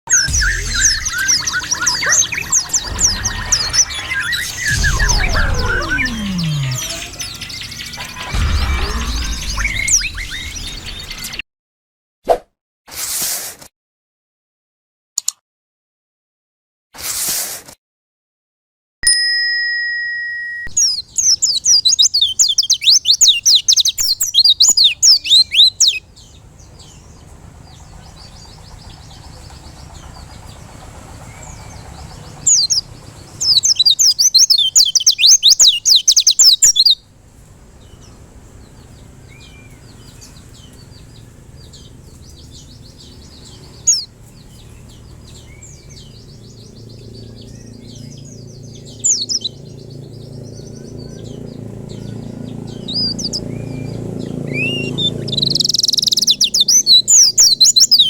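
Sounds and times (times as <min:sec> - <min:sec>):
bird twittering song: 0:00.1 - 0:11.4, 0:20.7 - 0:58.0
soft bird chirps: 0:00.1 - 0:11.4, 0:20.7 - 0:58.0.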